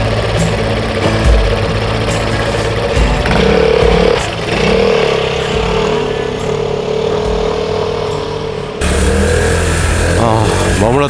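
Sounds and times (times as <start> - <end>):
scooter engine pulling away: 0.0 - 11.0.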